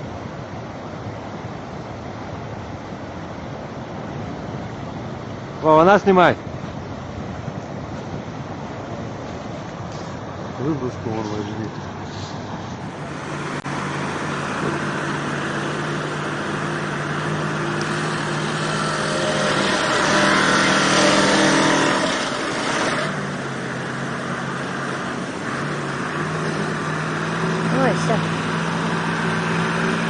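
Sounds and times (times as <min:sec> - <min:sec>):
heavy vehicle engine under load: 0:00.0 - 0:30.0
rushing noise: 0:00.0 - 0:30.0.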